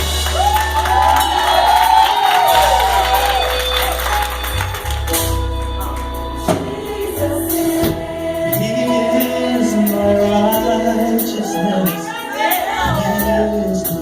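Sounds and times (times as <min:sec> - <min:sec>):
deep bass line: 0:00.0 - 0:14.0
gospel choir singing: 0:00.0 - 0:14.0
live band: 0:00.0 - 0:14.0.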